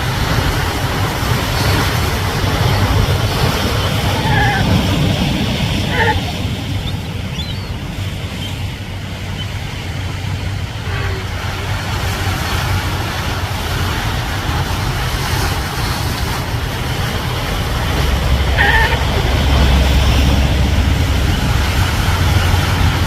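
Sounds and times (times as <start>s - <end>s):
ocean waves breaking on rocks: 0.0s - 23.0s
wind buffeting microphone: 0.0s - 23.0s.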